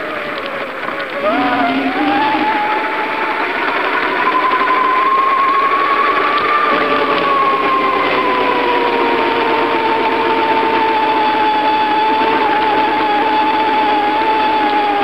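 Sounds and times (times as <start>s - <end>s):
bicycle mechanical whine: 0.0s - 15.0s.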